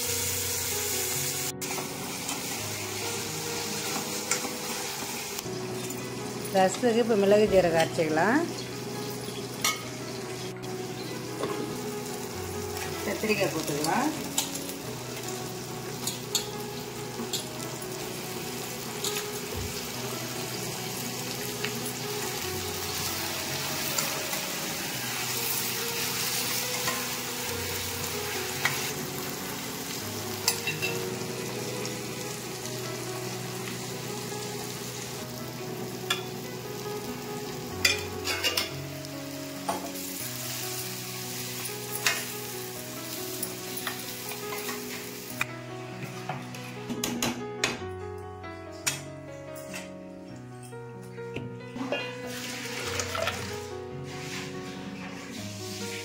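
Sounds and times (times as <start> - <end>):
vegetables sizzling in oil: 0.0 - 45.5, 52.2 - 56.0
soft background music: 0.0 - 56.0.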